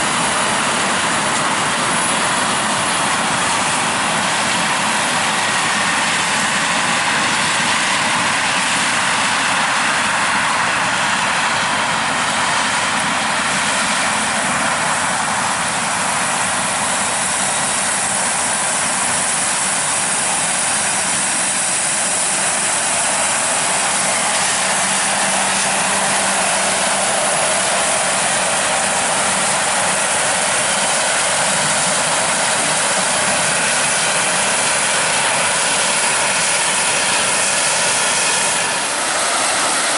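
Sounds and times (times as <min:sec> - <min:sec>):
harvest machinery running: 0:00.0 - 0:39.9.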